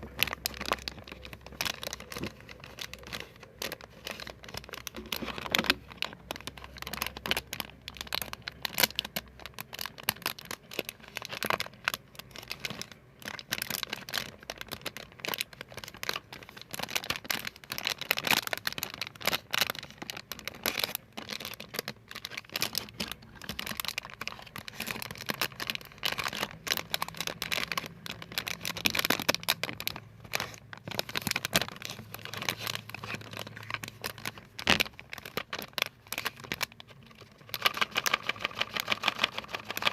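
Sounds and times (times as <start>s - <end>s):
material crinkling and crackling: 0.0s - 39.9s.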